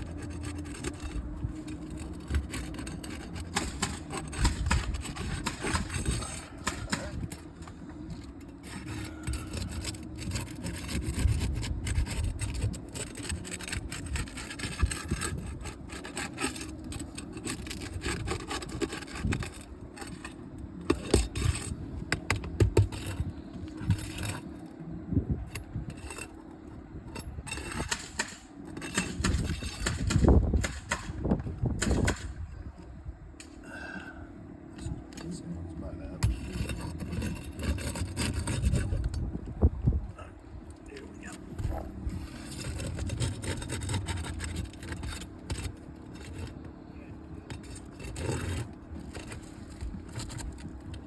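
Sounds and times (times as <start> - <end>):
scraping and prying roof shingles: 0.0 - 24.8, 25.4 - 32.5, 36.2 - 39.3, 40.9 - 51.0.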